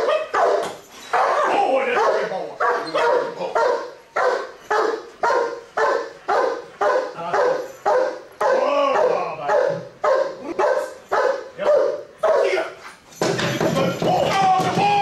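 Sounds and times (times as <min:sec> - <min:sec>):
dog barking: 0:00.0 - 0:12.7.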